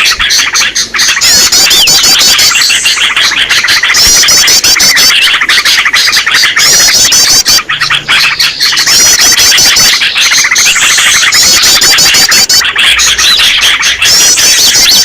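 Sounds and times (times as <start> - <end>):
high trilled bird phrase: 0.0 - 15.0
songbirds chattering and twittering: 0.0 - 15.0.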